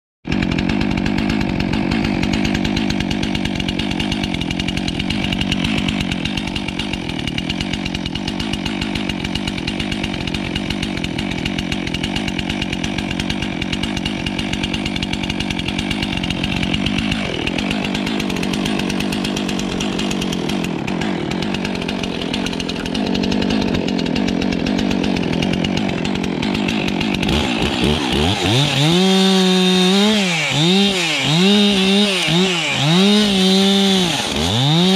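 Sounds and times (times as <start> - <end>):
chainsaw idling and revving: 0.3 - 34.9.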